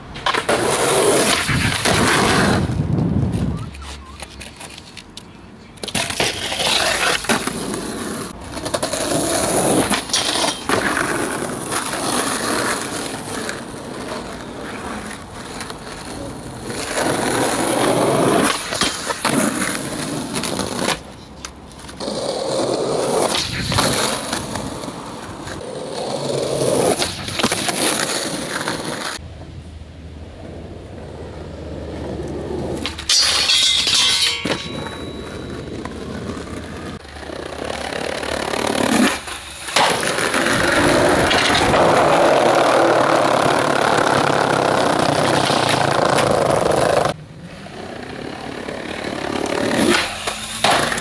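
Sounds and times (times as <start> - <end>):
skateboard clacks and scrapes: 0.0 - 29.2, 31.8 - 51.0
skateboard wheels rolling on concrete: 0.0 - 51.0.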